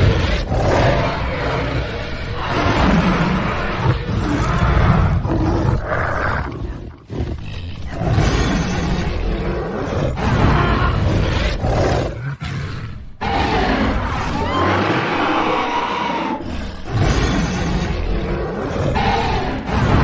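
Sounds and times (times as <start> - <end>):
loud dinosaur roars: 0.0 - 20.0.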